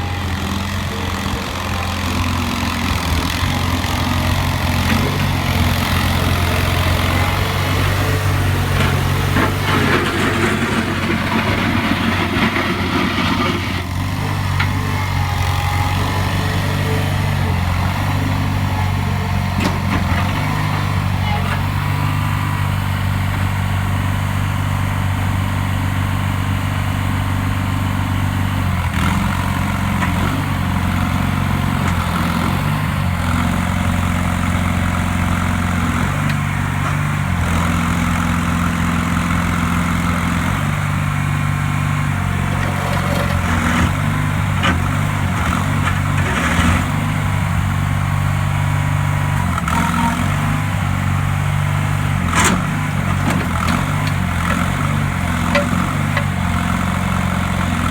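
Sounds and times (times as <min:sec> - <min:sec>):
backhoe engine running: 0:00.0 - 0:57.9.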